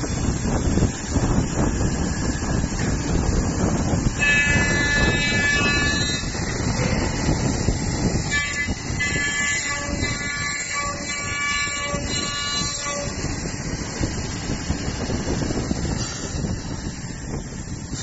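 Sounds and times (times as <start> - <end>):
high-pitched whining tones: 0.0 - 17.3
machine cutting wood: 0.2 - 17.3.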